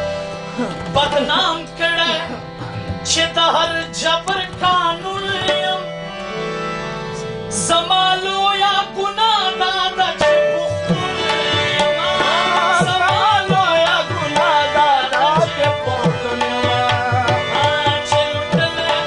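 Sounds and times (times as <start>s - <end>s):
harmonium: 0.0s - 19.0s.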